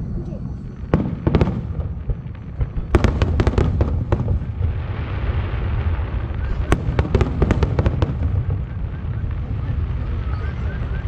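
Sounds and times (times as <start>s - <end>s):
low rumble of booms: 0.0s - 11.0s.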